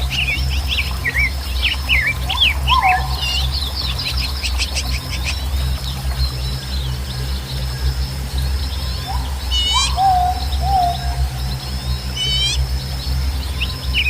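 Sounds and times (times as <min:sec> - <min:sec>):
birds whistling: 0:00.0 - 0:07.5, 0:08.4 - 0:14.0
birds chirping: 0:00.0 - 0:14.0
low rumble: 0:00.0 - 0:14.0.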